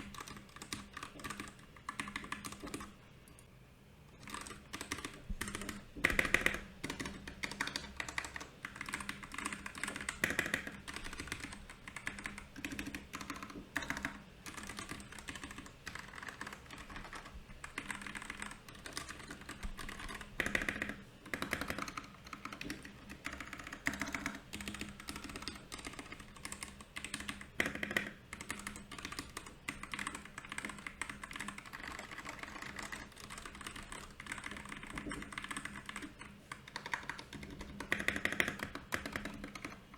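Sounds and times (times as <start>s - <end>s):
mechanical keyboard typing: 0.0s - 3.0s, 4.2s - 39.9s.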